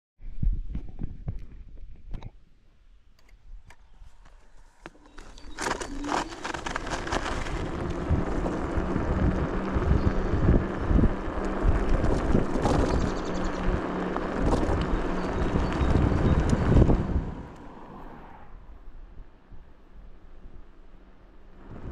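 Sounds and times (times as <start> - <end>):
vehicle engine and road noise: 3.1 - 21.9.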